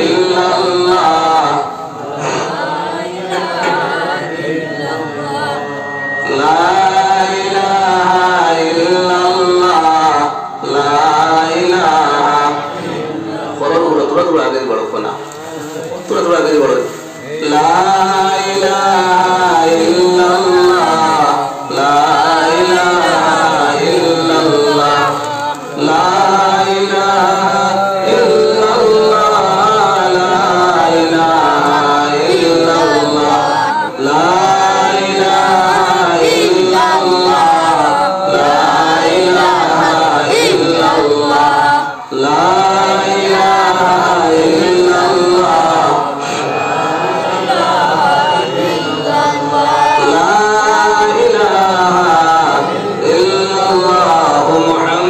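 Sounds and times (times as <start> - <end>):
man singing a chant: 0.0 - 55.0.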